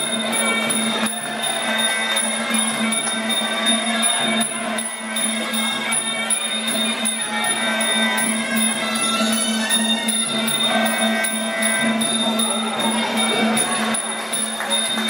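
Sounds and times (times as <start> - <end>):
small cymbals ringing: 0.0 - 15.0.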